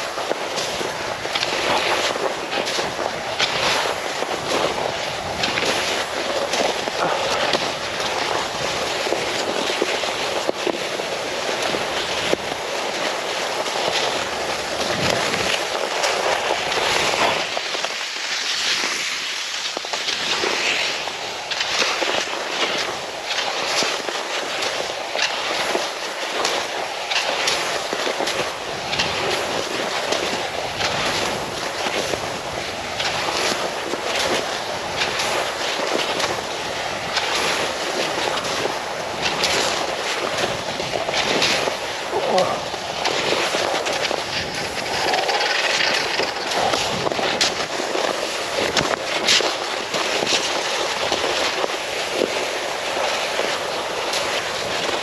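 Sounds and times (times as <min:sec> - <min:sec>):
skis scraping over hard snow: 0:00.0 - 0:55.0.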